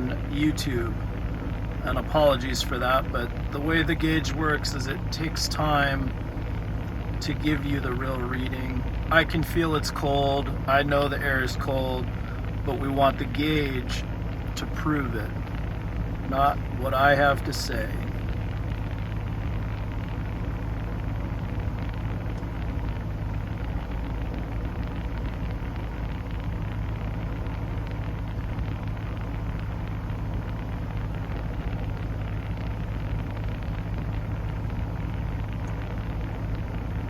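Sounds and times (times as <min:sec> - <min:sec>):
car engine idling hum: 0:00.0 - 0:37.0.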